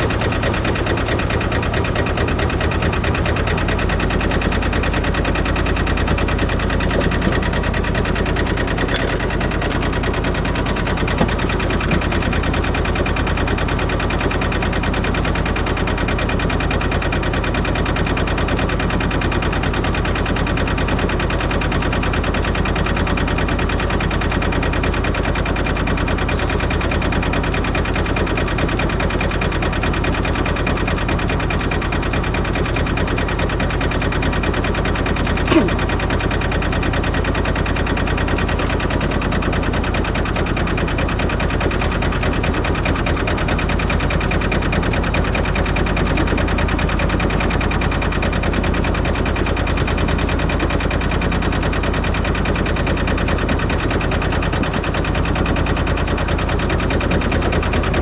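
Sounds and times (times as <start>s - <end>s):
marine engine running: 0.0s - 58.0s.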